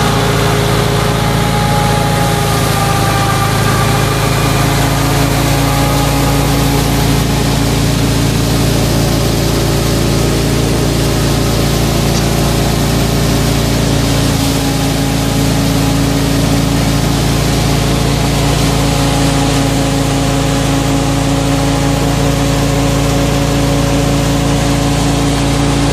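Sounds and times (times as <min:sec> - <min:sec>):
thresher machine drone: 0:00.0 - 0:25.9.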